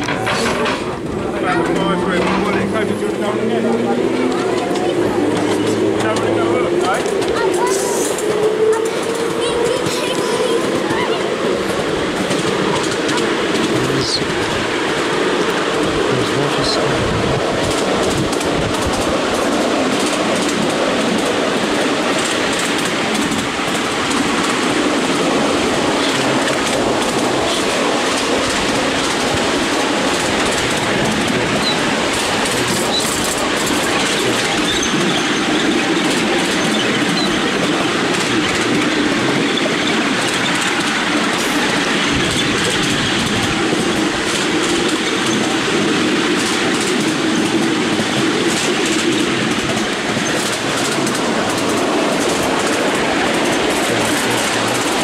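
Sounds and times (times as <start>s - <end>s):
miniature train wheels rumbling: 0.0s - 55.0s.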